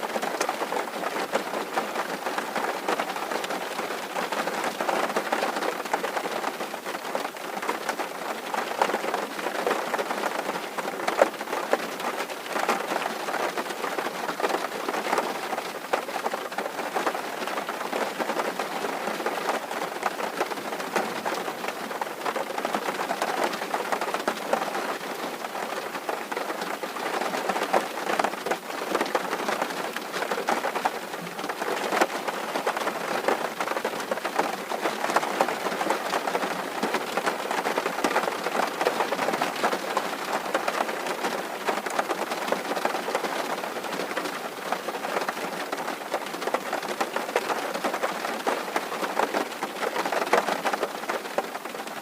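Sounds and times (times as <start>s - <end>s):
rain on a tin roof: 0.0s - 52.0s.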